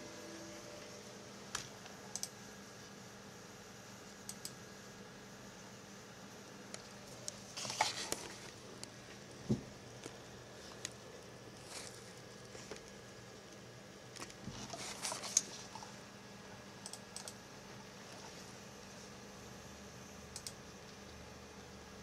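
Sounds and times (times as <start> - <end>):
faint computer hum: 0.0 - 22.0.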